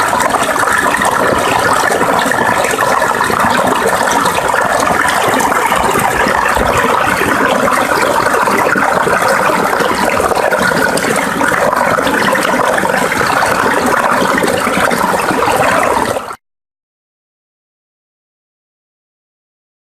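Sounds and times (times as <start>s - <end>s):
stream babbling: 0.0s - 16.3s.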